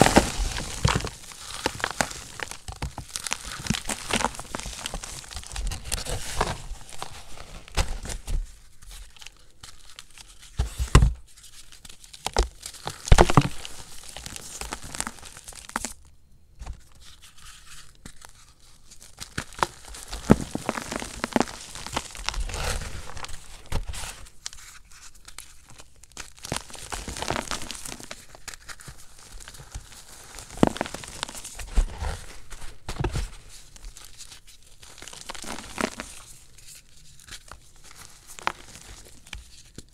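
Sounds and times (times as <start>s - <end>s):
chalk crunching and crumbling: 0.0s - 10.6s, 16.9s - 39.9s.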